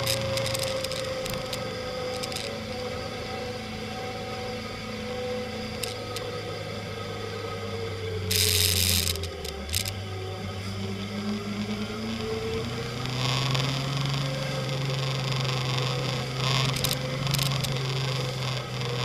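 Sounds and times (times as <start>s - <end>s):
motorcycle engine running: 0.0s - 7.0s, 8.2s - 19.0s.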